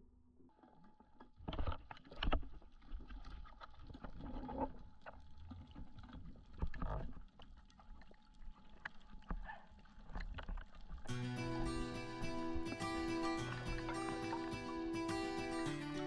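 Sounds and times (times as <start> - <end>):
underwater swishing water: 0.6 - 15.7.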